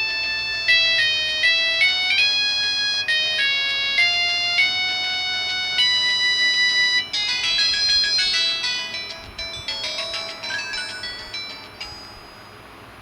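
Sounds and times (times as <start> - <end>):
polyphonic ringtone melody: 0.0 - 12.8.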